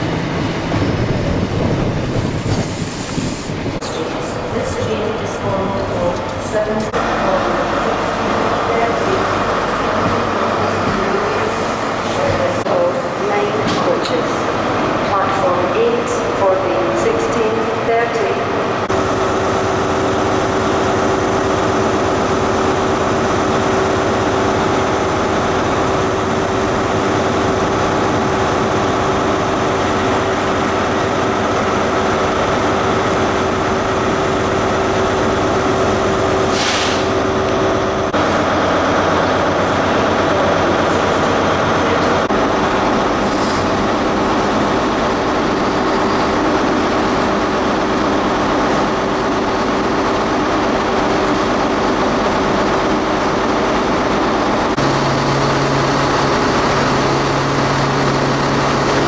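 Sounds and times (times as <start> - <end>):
diesel train engine humming: 0.0 - 59.0.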